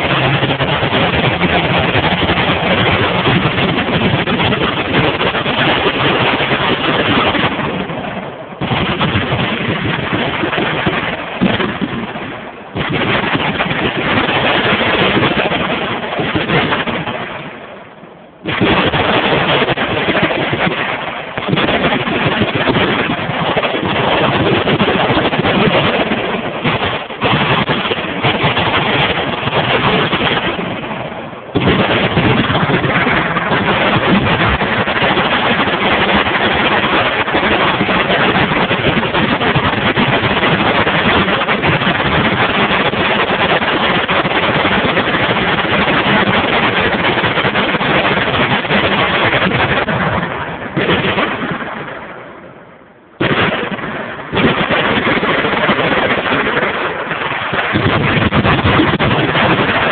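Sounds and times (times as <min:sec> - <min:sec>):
machine guns firing: 0:00.0 - 0:17.6, 0:18.4 - 0:52.0, 0:53.2 - 0:59.9.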